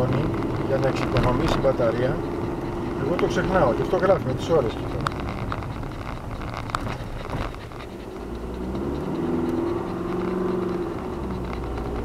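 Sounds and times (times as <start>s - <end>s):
car engine and road noise: 0.0s - 12.0s
engine drone with steady tones: 0.0s - 12.0s
light ticks: 0.0s - 12.0s.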